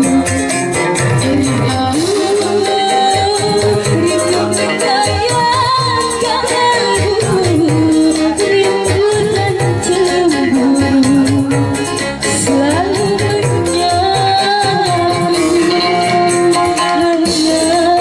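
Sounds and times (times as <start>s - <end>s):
electronic keyboard: 0.0s - 18.0s
hand drum beat: 0.0s - 18.0s
woman singing through microphone: 0.0s - 18.0s.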